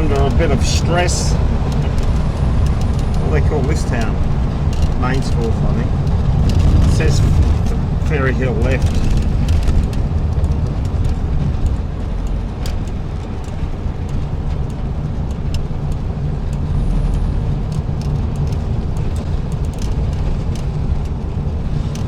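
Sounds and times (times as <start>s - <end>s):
car engine running under load: 0.0s - 22.0s
light rattling clicks: 0.0s - 22.0s
road noise: 0.0s - 22.0s.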